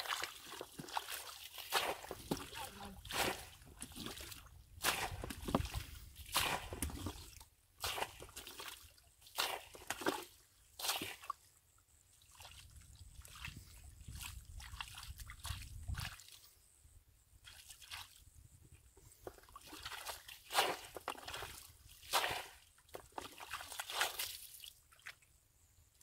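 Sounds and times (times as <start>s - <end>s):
muddy water sloshing and splashing: 0.0s - 16.7s, 17.4s - 25.3s.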